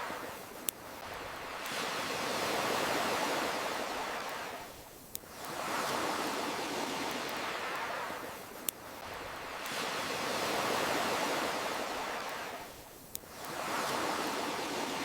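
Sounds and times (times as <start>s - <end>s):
campfire crackling: 0.0s - 15.0s
ocean waves washing ashore: 0.0s - 15.0s.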